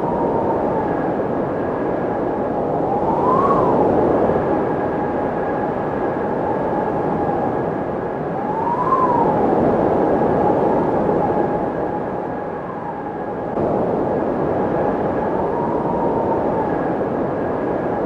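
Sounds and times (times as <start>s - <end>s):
windmill rushing and hum: 0.0s - 18.0s.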